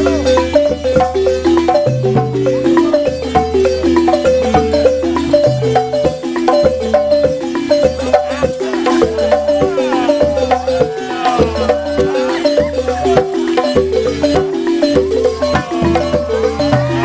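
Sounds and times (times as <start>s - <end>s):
xylophone played with mallets: 0.0s - 17.0s.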